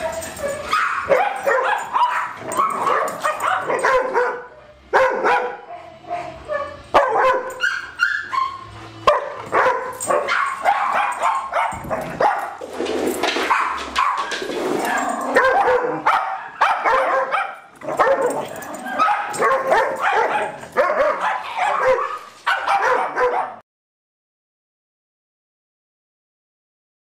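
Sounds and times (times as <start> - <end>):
dogs barking yipping and whining: 0.0 - 23.6.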